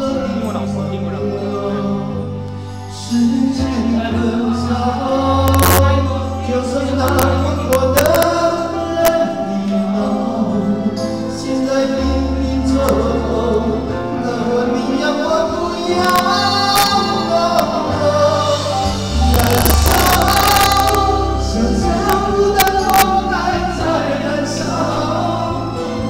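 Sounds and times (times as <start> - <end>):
band accompaniment: 0.0 - 26.0
gospel singing: 0.0 - 26.0.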